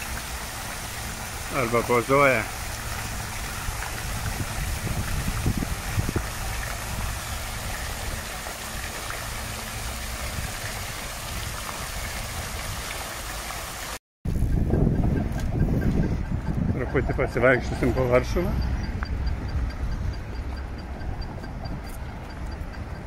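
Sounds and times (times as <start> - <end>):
fountain water splashing: 0.0 - 14.0, 16.5 - 23.0.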